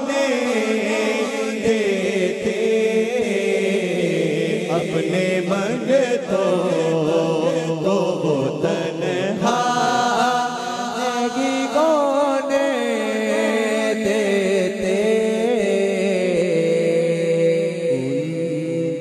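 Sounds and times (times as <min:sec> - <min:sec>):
men singing through microphones: 0:00.0 - 0:19.0.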